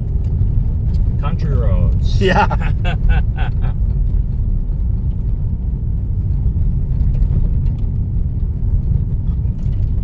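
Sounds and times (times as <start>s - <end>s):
tyres rumbling on dirt road: 0.0s - 10.0s.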